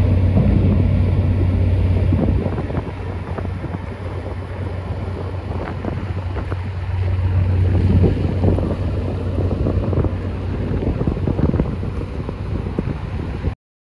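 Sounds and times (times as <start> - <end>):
ship engine drone: 0.0 - 13.6
wind buffeting microphone: 0.0 - 13.6.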